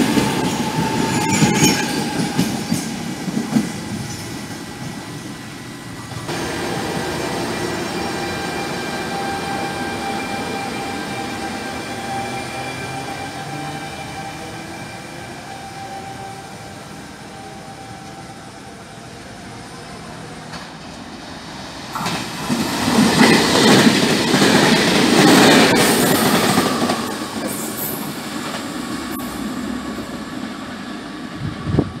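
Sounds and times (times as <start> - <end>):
electric locomotive hum: 0.0 - 32.0
train passing with rail noise: 0.0 - 32.0.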